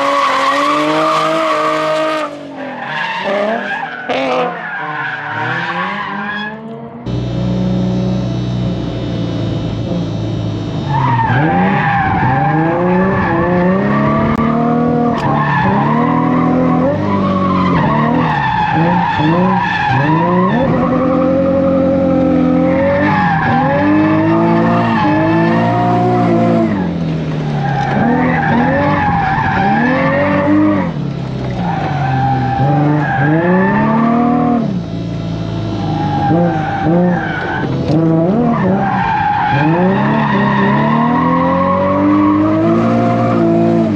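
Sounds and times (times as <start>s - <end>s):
tires skidding and squealing: 0.0s - 6.9s, 10.9s - 34.7s, 35.8s - 43.9s
car engine revving: 0.0s - 43.9s.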